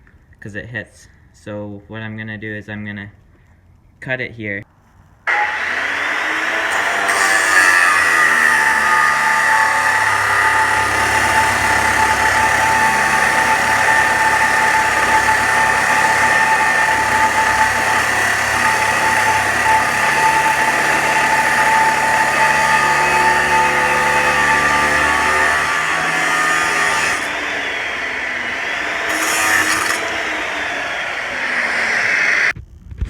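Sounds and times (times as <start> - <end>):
angle grinder cutting steel: 5.3 - 32.6.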